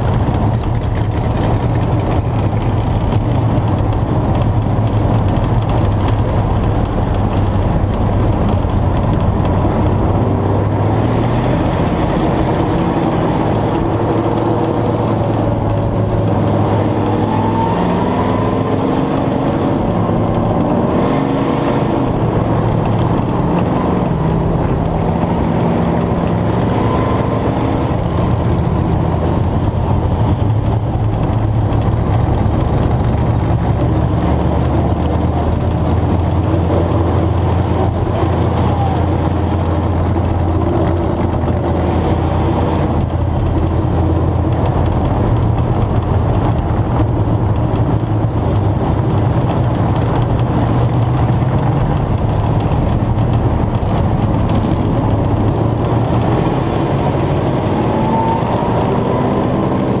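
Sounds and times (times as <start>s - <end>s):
other race car engines: 0.0s - 60.0s
race car engine running: 0.0s - 60.0s.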